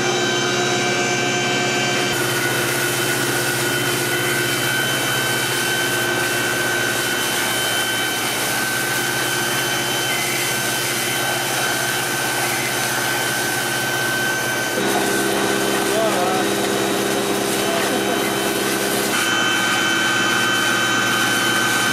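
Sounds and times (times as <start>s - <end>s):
fire engine pump running: 0.0s - 21.9s
hose jet spraying water: 2.1s - 21.9s.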